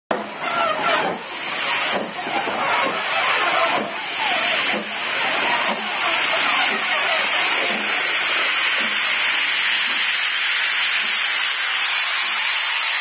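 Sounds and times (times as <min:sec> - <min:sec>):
steam locomotive hissing: 0:00.1 - 0:13.0.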